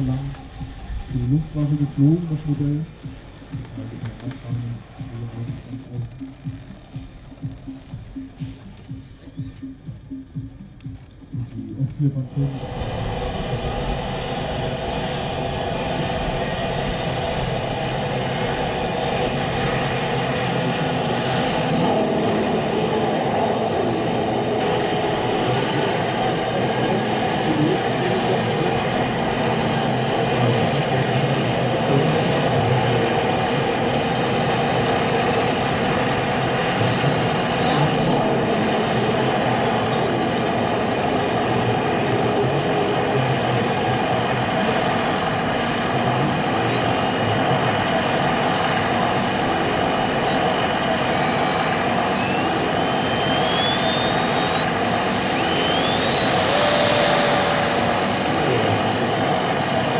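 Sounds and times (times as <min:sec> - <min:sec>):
engine spooling up whine: 0:00.0 - 0:59.9
model aircraft engines running: 0:00.0 - 0:59.9.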